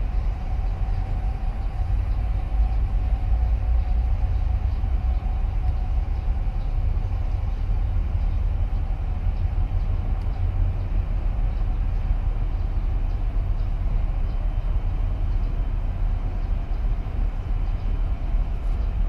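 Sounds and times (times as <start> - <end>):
ship machinery rumble and hum: 0.0 - 19.0.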